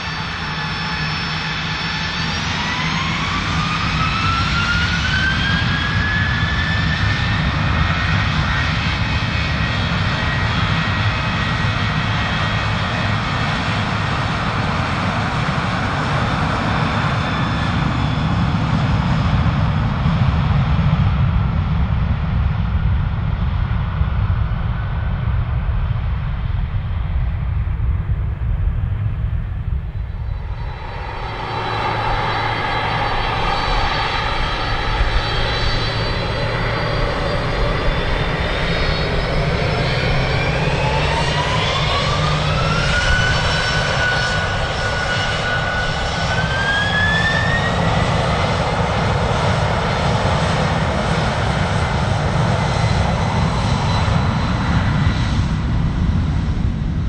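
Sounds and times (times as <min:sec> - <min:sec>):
jet engines low rumble: 0:00.0 - 0:57.0
jet turbofan whine spooling up: 0:00.0 - 0:57.0.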